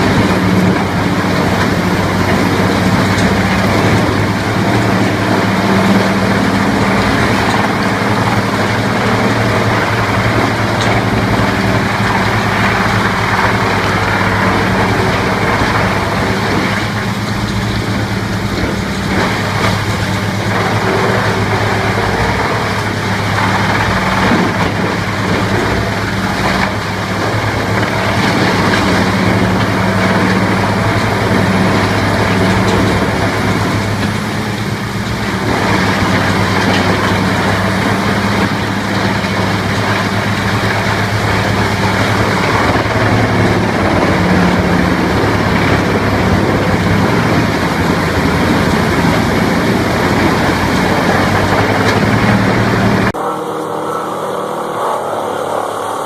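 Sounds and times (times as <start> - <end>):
dense mechanical noise: 0.0 - 56.0
heavy engine droning: 0.0 - 56.0.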